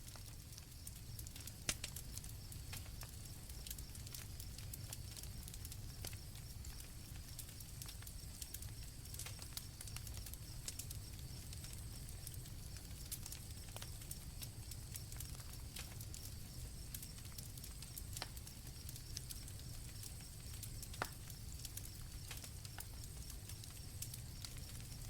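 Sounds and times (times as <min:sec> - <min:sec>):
campfire crackling and popping: 0:00.0 - 0:25.0
low fire rumble: 0:00.0 - 0:25.0
crickets chirping: 0:02.1 - 0:25.0.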